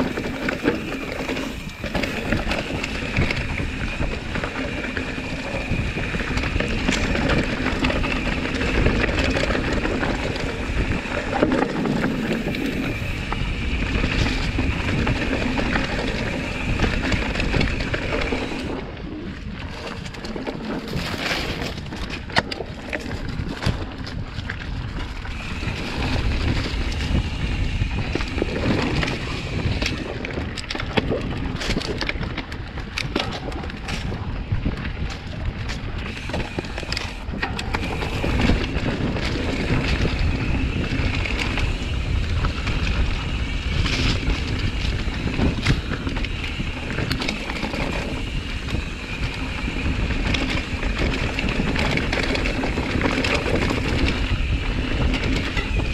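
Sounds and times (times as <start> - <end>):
bike knocking and rattling: 0.0 - 55.9
tyres rumbling on dirt: 0.0 - 55.9
wind buffeting microphone: 0.0 - 55.9.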